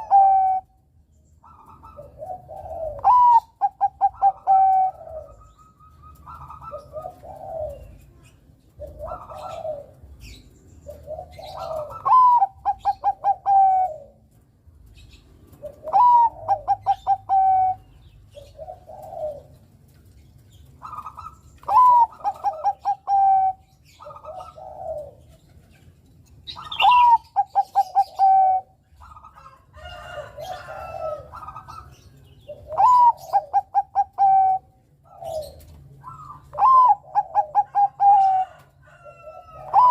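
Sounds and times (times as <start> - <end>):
dove singing: 0.0 - 39.9.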